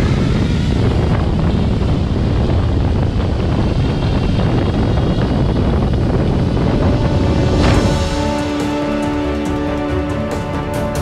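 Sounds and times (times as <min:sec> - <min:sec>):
propeller wash blasting microphone: 0:00.0 - 0:11.0.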